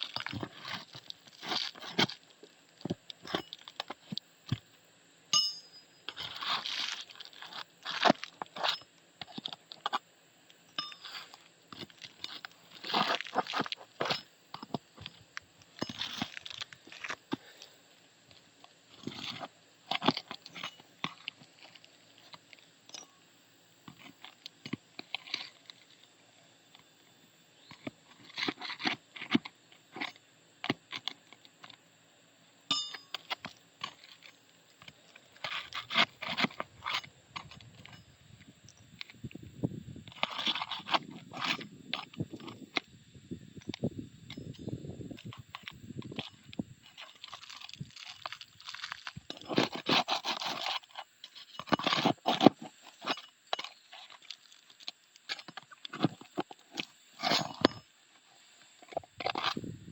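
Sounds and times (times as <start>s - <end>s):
roof shingles crunching and scraping: 0.0s - 4.6s, 6.1s - 10.0s, 11.0s - 22.7s, 23.9s - 26.2s, 27.6s - 31.8s, 33.2s - 38.0s, 40.0s - 42.9s, 45.1s - 59.7s.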